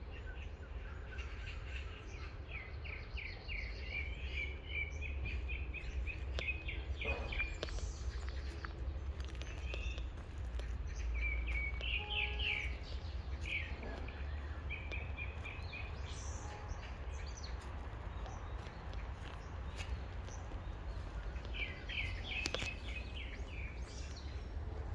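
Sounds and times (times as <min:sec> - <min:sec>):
songbirds chirping: 0:00.0 - 0:24.9.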